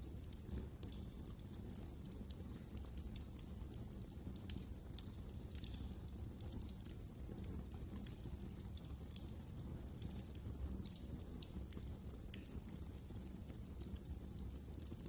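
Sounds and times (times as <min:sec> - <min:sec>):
low rumble of flames: 0:00.0 - 0:15.0
wood fire crackling: 0:00.0 - 0:15.0
sharp snaps and pops: 0:00.1 - 0:15.0.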